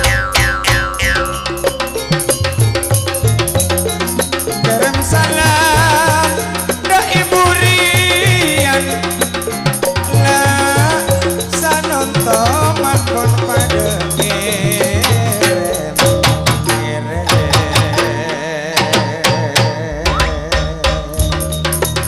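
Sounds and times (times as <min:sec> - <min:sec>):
hand drums playing: 0:00.0 - 0:22.0
heavy deep bass: 0:00.0 - 0:22.0
wavering melody line: 0:00.0 - 0:22.0.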